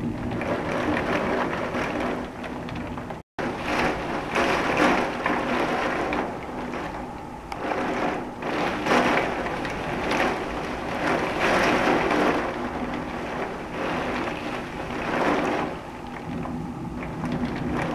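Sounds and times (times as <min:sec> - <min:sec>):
rain: 0:00.0 - 0:17.9
storm wind gusting: 0:00.0 - 0:17.9.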